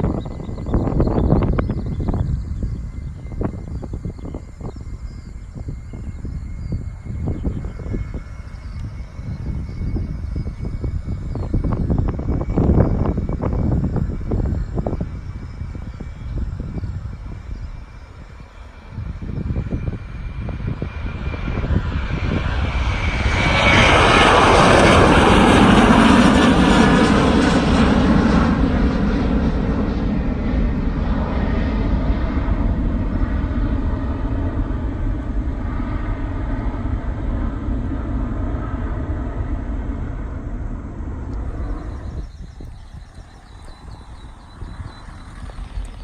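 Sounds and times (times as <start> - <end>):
airliner engines passing by: 0.0 - 46.0.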